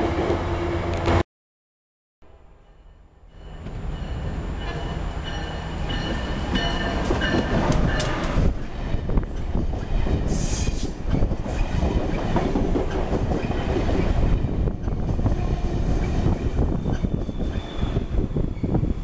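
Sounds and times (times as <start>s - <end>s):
train coaches rumbling on rails: 3.4s - 19.0s.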